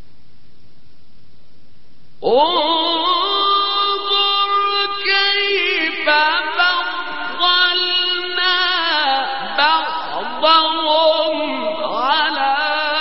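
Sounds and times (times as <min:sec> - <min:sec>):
man chanting recitation: 0:02.2 - 0:13.0.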